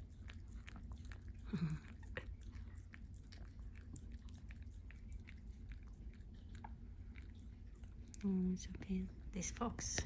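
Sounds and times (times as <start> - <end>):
dog chewing and licking: 0.0 - 10.0.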